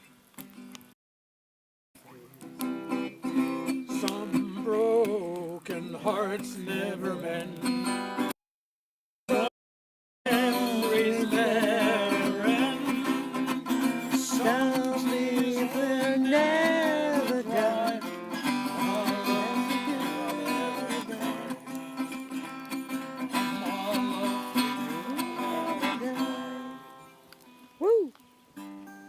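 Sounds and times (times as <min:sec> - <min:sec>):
acoustic guitar strumming: 0:02.4 - 0:08.3, 0:10.3 - 0:29.0.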